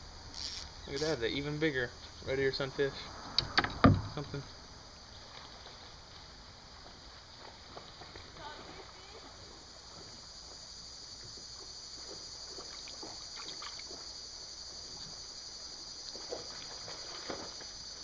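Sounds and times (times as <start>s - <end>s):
creek water running: 0.3s - 1.8s, 4.0s - 18.0s.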